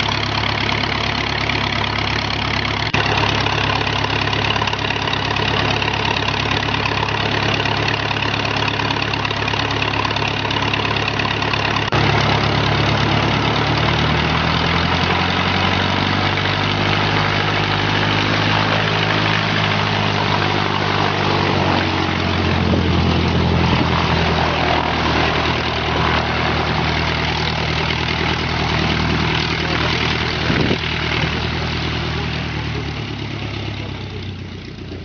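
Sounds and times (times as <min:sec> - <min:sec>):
biplane engine and propeller: 0:00.0 - 0:35.0.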